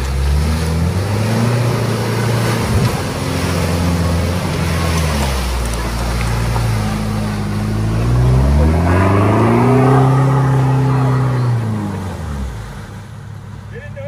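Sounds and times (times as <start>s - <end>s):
engine revving under load: 0.0s - 13.1s
mud splashing off tyres: 0.0s - 13.7s.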